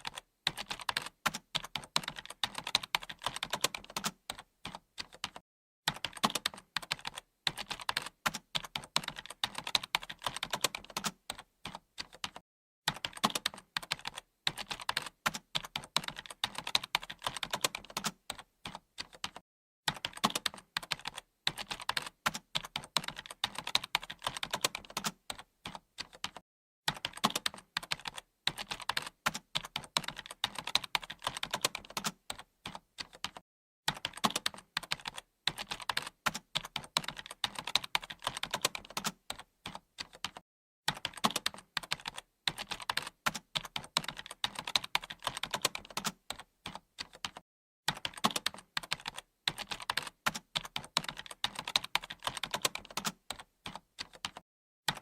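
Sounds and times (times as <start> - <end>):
keyboard typing: 0.0 - 55.0.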